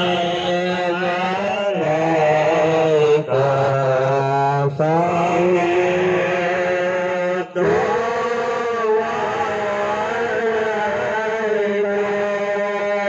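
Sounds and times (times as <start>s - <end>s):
man chanting a slow melody: 0.0s - 13.0s.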